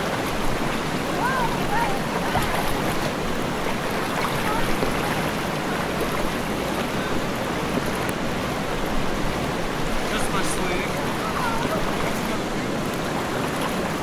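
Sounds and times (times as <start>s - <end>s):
river current over gravel: 0.0s - 14.0s.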